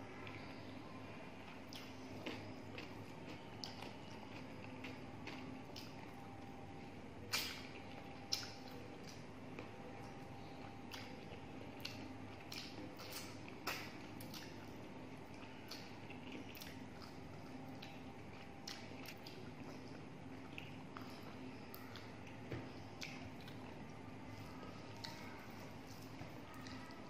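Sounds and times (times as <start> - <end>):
faint steady hum: 0.0 - 27.0
wet chewing and lip-smacking: 1.5 - 6.2, 7.2 - 22.4, 23.0 - 27.0.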